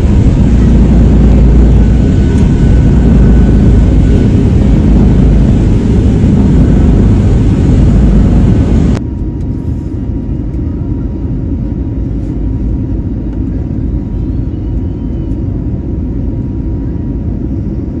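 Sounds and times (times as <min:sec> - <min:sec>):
jet engines and airflow rumbling: 0:00.0 - 0:18.0.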